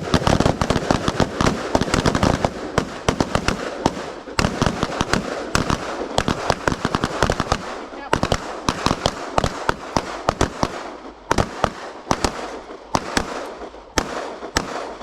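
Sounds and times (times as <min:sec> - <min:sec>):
rapid overlapping gunfire: 0:00.0 - 0:15.0.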